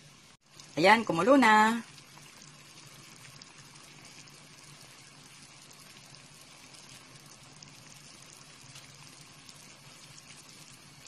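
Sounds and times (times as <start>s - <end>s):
pot of water boiling: 0.0s - 11.0s.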